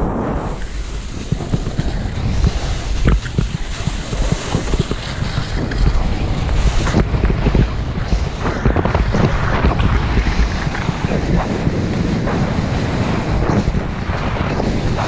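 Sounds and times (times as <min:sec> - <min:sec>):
wind buffeting microphone: 0:00.0 - 0:15.0
edges rasping over hard snow: 0:00.2 - 0:15.0.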